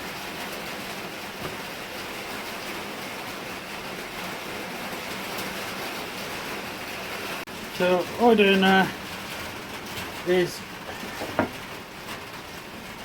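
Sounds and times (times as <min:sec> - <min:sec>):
heavy rain on shed: 0:00.0 - 0:13.0.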